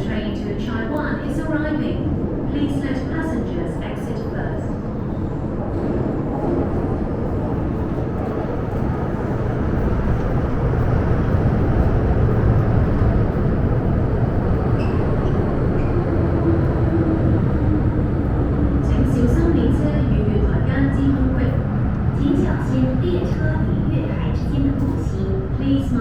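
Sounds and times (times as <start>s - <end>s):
train low whine: 0.0s - 26.0s
train wheels rumbling on rail: 0.0s - 26.0s.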